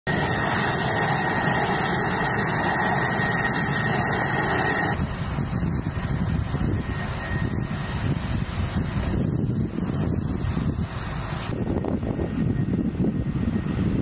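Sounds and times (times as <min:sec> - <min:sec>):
engine noise: 0:00.0 - 0:14.0
thin high whine: 0:00.0 - 0:14.0
soft wind noise: 0:00.1 - 0:14.0.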